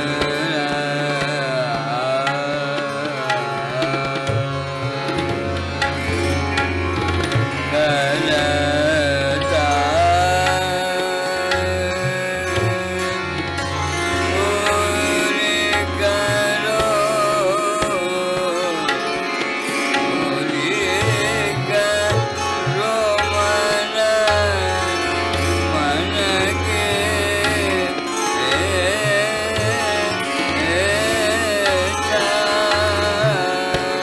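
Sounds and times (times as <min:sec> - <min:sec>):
man singing ornamented phrases: 0:00.0 - 0:05.2, 0:07.7 - 0:19.2, 0:20.2 - 0:34.0
tabla: 0:00.0 - 0:34.0.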